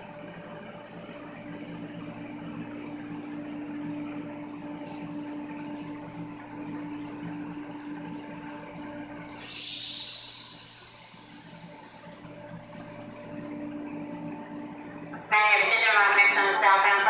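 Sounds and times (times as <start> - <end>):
train equipment humming: 1.2 - 17.0.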